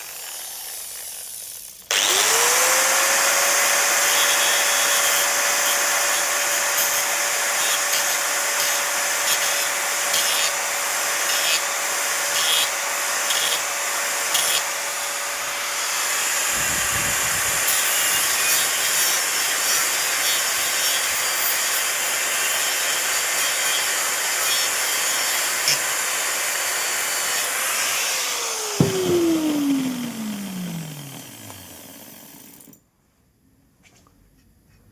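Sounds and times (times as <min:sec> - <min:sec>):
angle grinder whining: 0:00.0 - 0:32.8.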